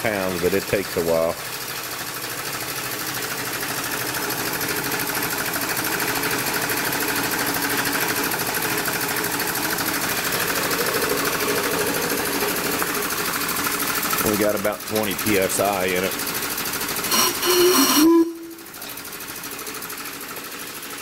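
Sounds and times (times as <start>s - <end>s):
air compressor running: 0.0s - 21.0s.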